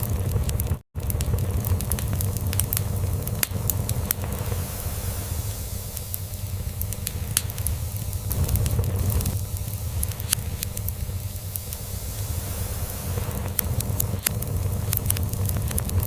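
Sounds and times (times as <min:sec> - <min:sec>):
log fire crackling and popping: 0:00.0 - 0:16.0.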